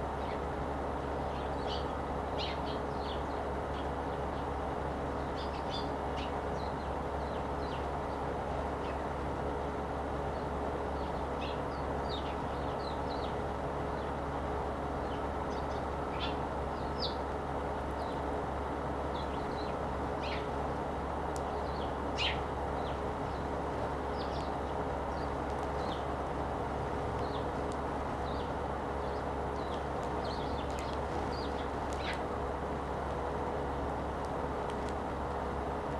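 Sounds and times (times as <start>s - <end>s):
sparrows chirping: 0.0s - 35.7s
steady background hum: 0.0s - 35.9s.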